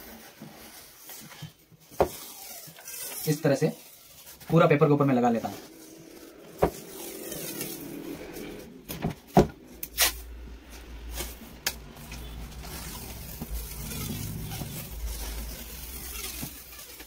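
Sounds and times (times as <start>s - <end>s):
tape rubbing rumble: 0.0s - 17.0s.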